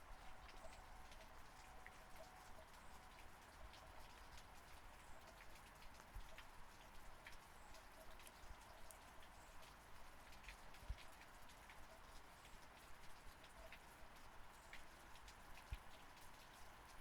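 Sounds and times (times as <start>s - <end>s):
faint steady rain: 0.0s - 17.0s
raindrops ticking on a surface: 0.0s - 17.0s.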